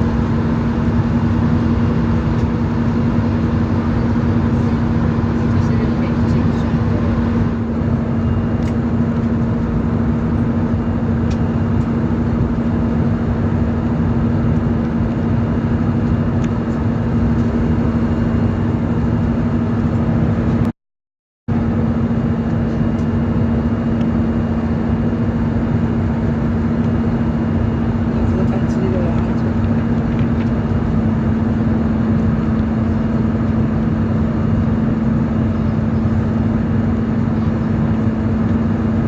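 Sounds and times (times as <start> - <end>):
airplane cabin engine rush: 0.0 - 20.7, 21.5 - 39.0.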